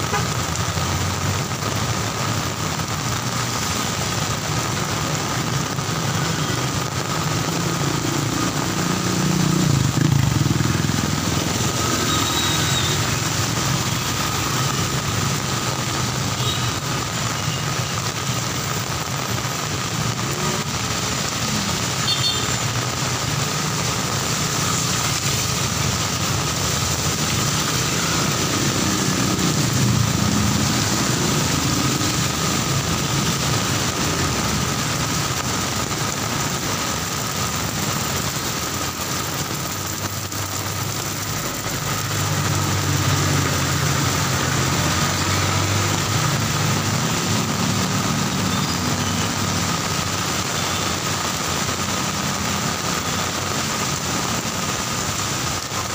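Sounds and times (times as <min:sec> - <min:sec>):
heavy rain on street: 0:00.0 - 0:55.9
passing cars and motorcycles: 0:00.0 - 0:55.9.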